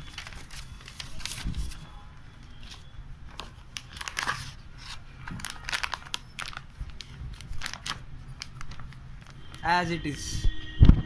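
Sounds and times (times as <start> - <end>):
packaging crinkling: 0.0 - 1.9, 2.5 - 9.6.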